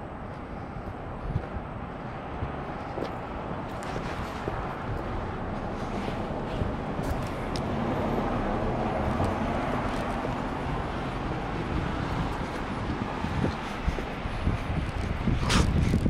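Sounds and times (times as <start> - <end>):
low traffic rumble: 0.0 - 16.0
vehicle passing: 0.0 - 16.0.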